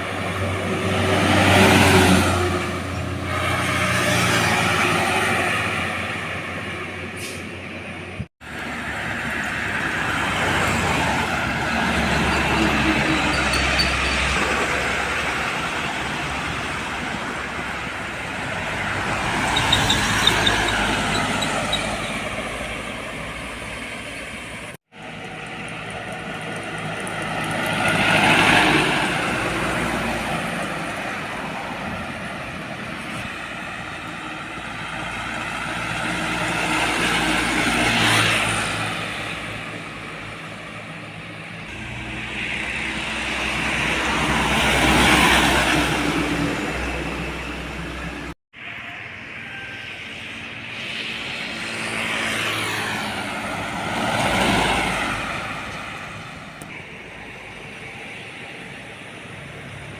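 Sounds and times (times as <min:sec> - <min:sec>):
trucks passing on highway: 0:00.0 - 0:59.9.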